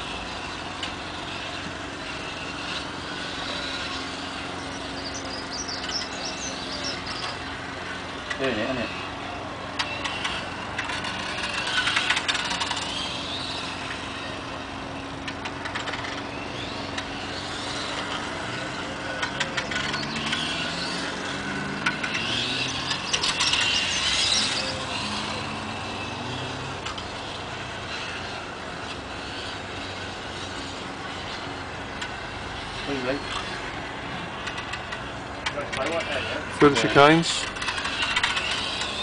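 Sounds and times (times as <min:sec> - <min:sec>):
electric motor whining: 0:00.0 - 0:39.0.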